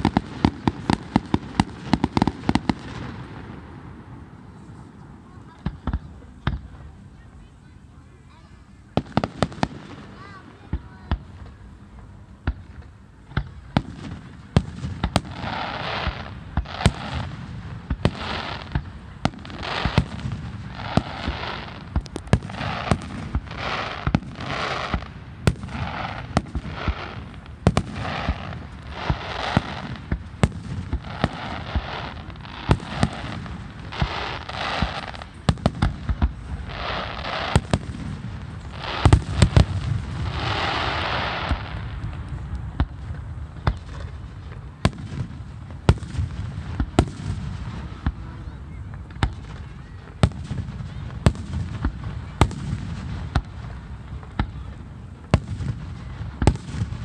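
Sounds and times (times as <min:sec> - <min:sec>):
fireworks bangs: 0:00.0 - 0:07.0, 0:08.9 - 0:57.0
fireworks crackle: 0:00.0 - 0:57.0.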